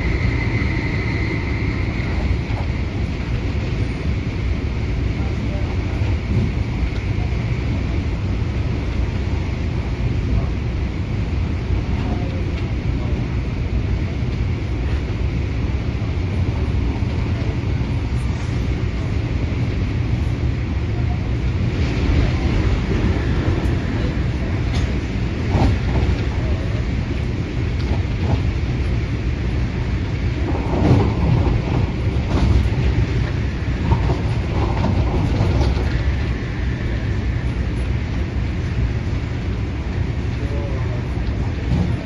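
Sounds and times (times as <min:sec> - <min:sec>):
train clattering: 0:00.0 - 0:09.2, 0:11.4 - 0:42.0
train wheels rumbling on track: 0:00.0 - 0:42.0.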